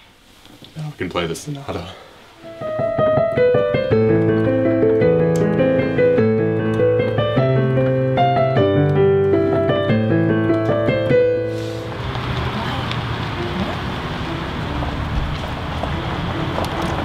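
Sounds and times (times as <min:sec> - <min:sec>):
digital piano playing: 0:02.4 - 0:17.0.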